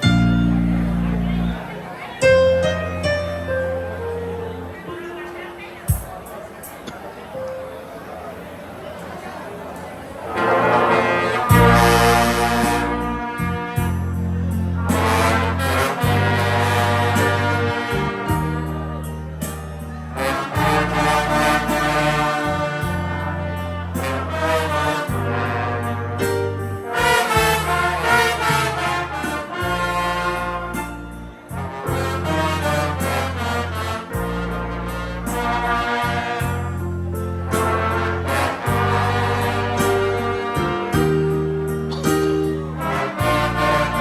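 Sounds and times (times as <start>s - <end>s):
low bass line: 0.0s - 4.8s, 11.5s - 44.0s
brass band playing: 0.0s - 6.9s, 10.2s - 44.0s
trombones and trumpets chords: 0.0s - 7.6s, 10.2s - 44.0s.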